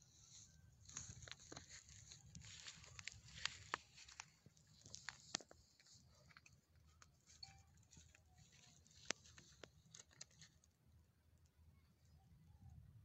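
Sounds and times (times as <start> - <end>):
faint clicks and ticks: 0.8 - 12.9.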